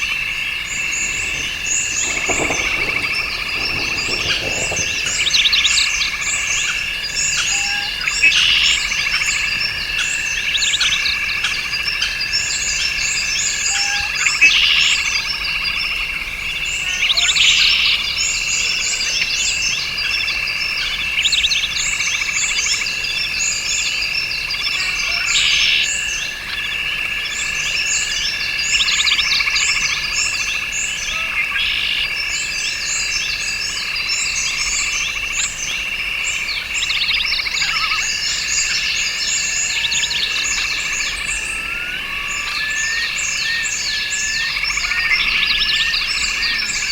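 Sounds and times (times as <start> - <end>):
birds calling: 0.0 - 46.9
chorus of frogs calling: 0.0 - 46.9.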